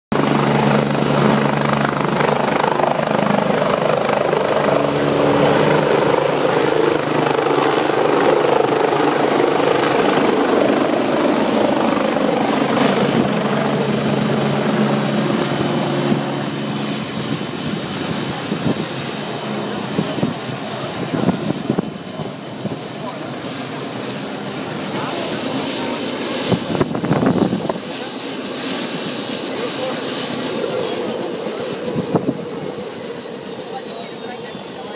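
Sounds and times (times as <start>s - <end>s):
helicopter rotor and engine: 0.1s - 34.9s.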